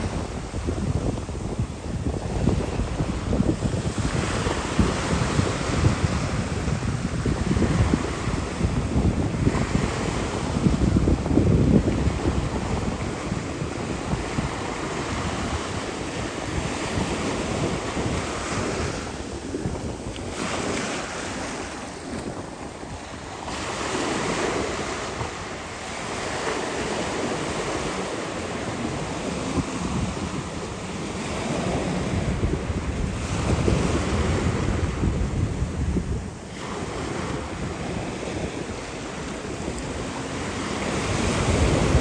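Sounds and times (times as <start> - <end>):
sea water rushing and splashing: 0.0 - 42.0
wind buffeting microphone: 0.0 - 42.0.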